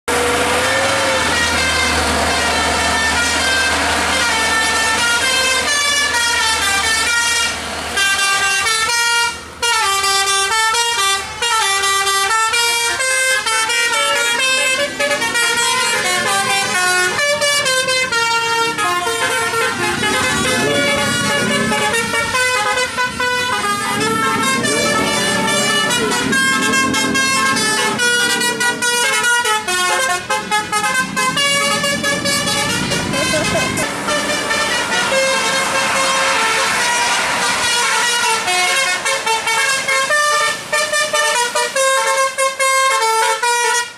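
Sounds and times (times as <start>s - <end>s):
bus engine noise: 0.0s - 43.9s
musical air horn melody: 0.1s - 43.9s.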